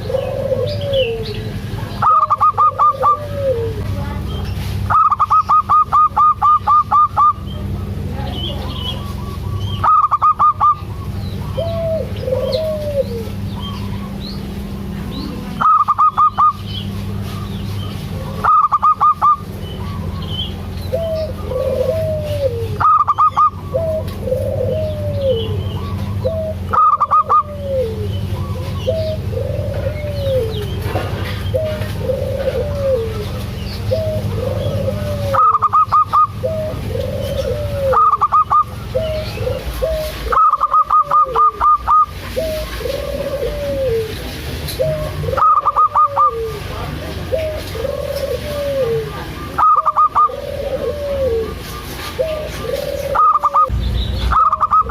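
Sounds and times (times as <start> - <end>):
dove cooing softly: 0.0 - 4.2, 4.8 - 53.7, 54.3 - 54.9
dove staccato calls: 0.0 - 54.9
low hum: 0.0 - 54.9.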